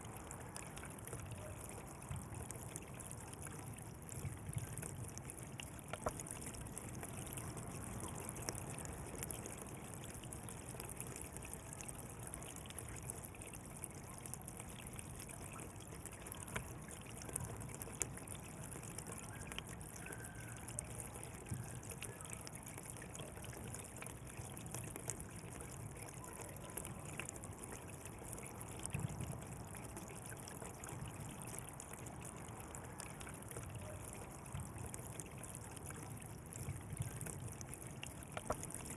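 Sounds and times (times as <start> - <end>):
water trickling and gurgling: 0.0 - 38.9.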